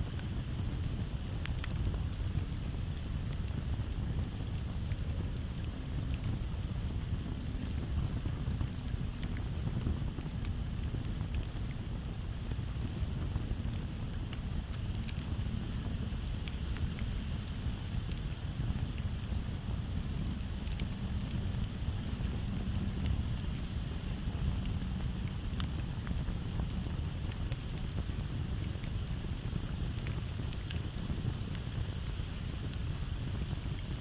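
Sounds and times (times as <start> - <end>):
campfire crackling: 0.0 - 34.0
crickets trilling: 0.1 - 34.0.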